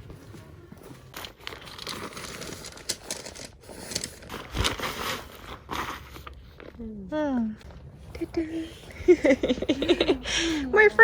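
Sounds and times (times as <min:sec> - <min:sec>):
rustling and crinkling: 0:00.0 - 0:10.1.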